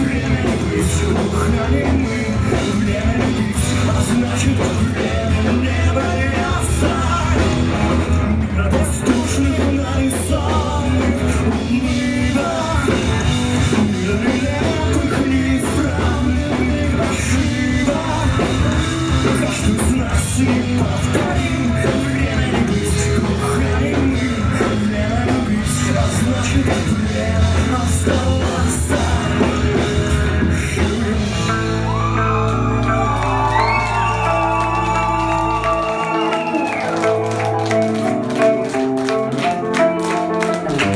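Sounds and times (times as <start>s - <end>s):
person singing lead vocal: 0.0s - 40.9s
rock band playing live: 0.0s - 40.9s.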